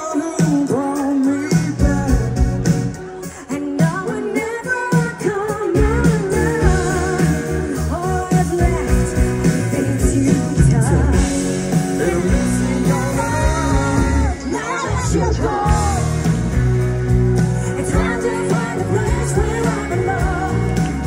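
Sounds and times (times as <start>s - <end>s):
person singing: 0.0s - 16.4s, 17.4s - 21.0s
drums bass and keyboards: 0.0s - 21.0s.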